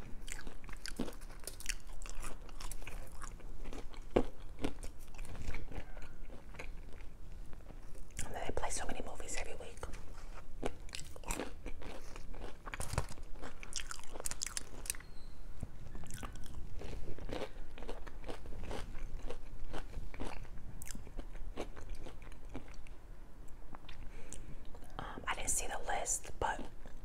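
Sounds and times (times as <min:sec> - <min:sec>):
chewing crunchy fries: 0:00.0 - 0:15.2, 0:15.8 - 0:25.0, 0:26.3 - 0:27.0.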